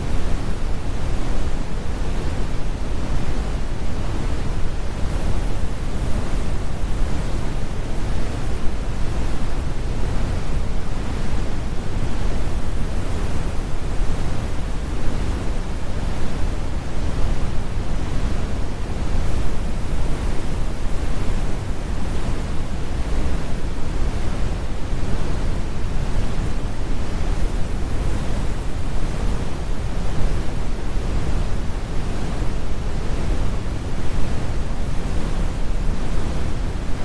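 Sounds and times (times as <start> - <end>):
brown noise rumble: 0.0 - 37.0.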